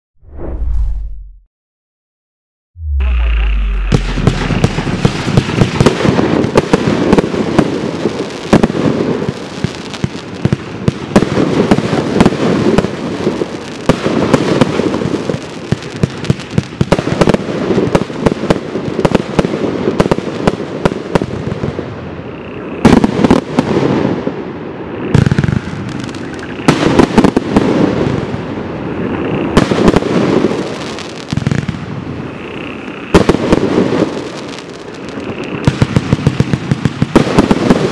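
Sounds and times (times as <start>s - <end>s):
fireworks launching and bursting: 2.8s - 22.0s, 22.8s - 37.9s.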